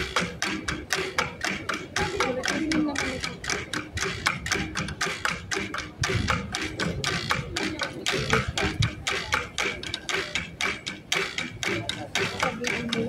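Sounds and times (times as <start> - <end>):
fast dry hand percussion: 0.0 - 13.0
low percussion thuds: 0.0 - 13.0.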